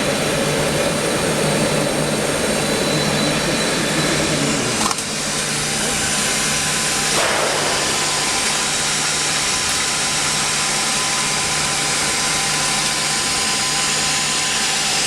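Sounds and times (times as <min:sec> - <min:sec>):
welding machine hissing and humming: 0:00.0 - 0:15.0.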